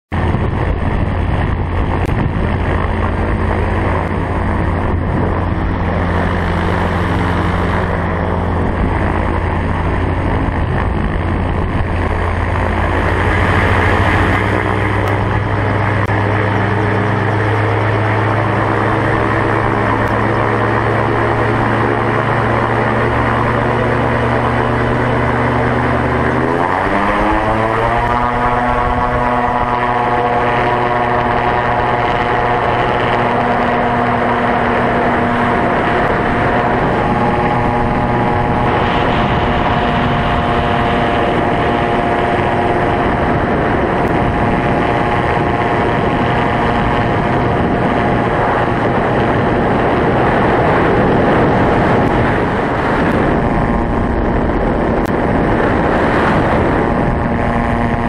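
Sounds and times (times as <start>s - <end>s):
aircraft engine and propeller: 0.1s - 58.0s.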